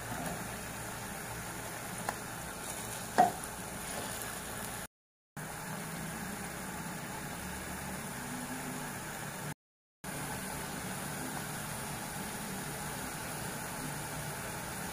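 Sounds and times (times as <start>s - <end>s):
food frying in oil: 0.0s - 14.9s.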